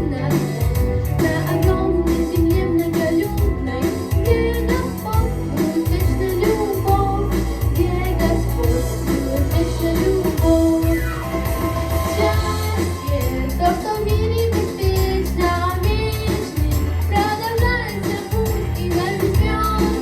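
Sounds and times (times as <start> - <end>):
girl singing pop song: 0.0 - 11.3, 12.0 - 20.0
backing track with bass line: 0.0 - 20.0.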